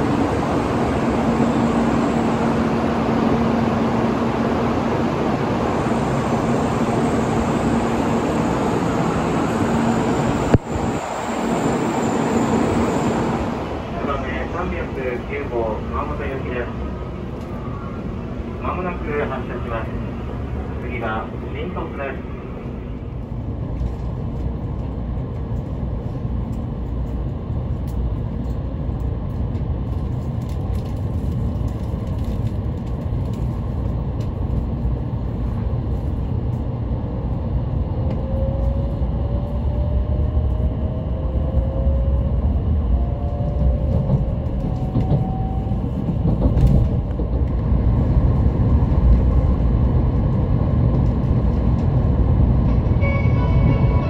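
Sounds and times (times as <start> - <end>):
rising train whine: 0.0 - 54.0
train low rumble: 0.0 - 54.0.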